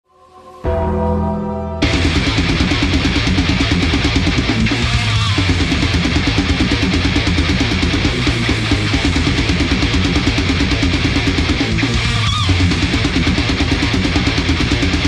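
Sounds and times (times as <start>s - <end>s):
heavy metal electric guitar riff: 0.2s - 15.0s.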